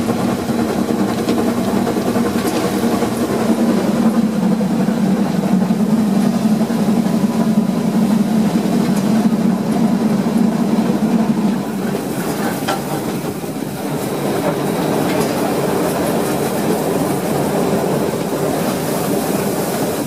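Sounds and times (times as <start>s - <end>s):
steam train running rumble: 0.0s - 20.0s
train wheels clicking: 0.0s - 20.0s.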